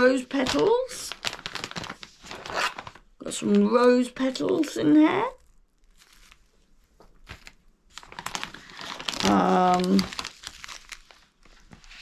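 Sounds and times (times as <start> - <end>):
packaging crinkling: 0.0 - 3.1, 4.3 - 12.0.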